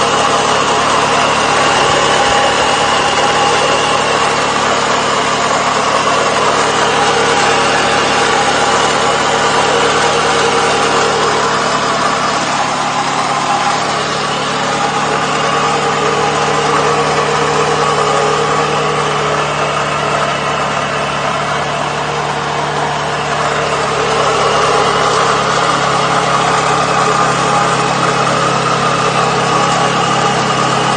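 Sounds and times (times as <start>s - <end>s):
car engine idling with rattle: 0.0s - 30.9s.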